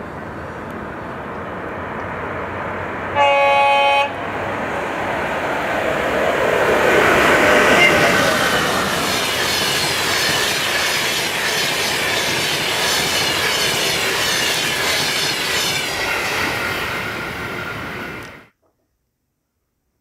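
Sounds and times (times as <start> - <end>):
train rushing past: 0.0 - 18.5.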